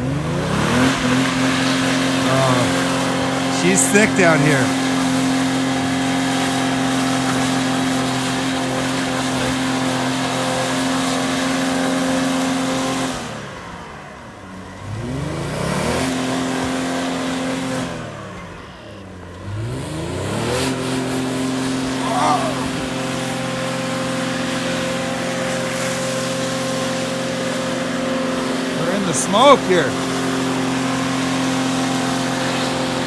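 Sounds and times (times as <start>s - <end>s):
car engine at high revs: 0.0s - 33.0s
wheels spinning in mud: 0.0s - 33.0s.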